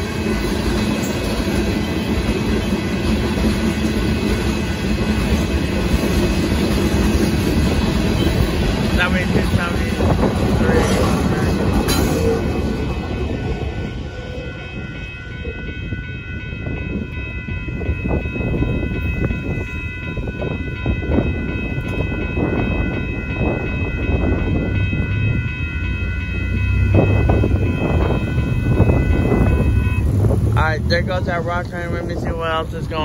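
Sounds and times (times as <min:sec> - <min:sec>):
crossing warning bell ringing: 0:00.0 - 0:33.0
freight train rumbling past: 0:00.0 - 0:33.0.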